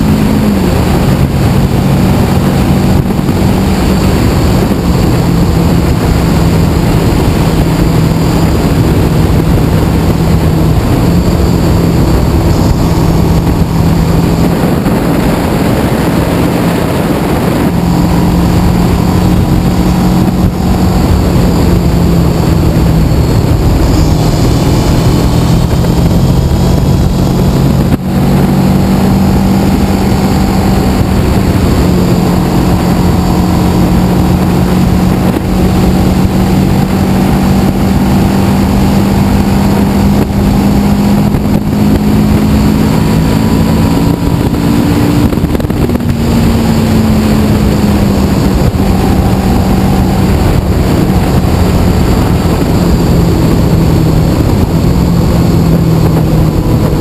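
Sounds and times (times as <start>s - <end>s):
motorcycle engine cruising: 0.0s - 57.0s
wind rush: 0.0s - 57.0s.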